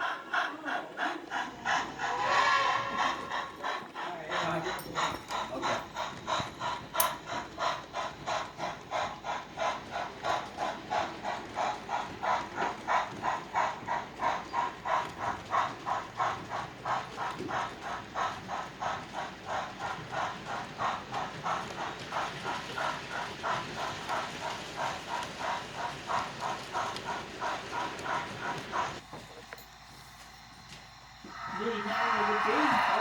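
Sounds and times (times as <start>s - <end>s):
model steam locomotive chuffing: 0.0s - 33.0s.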